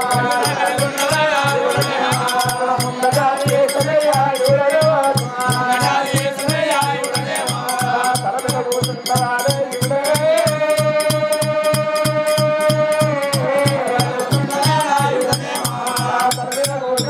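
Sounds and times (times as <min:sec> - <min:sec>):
man singing into a microphone: 0:00.0 - 0:17.0
steady drum beat: 0:00.0 - 0:17.0.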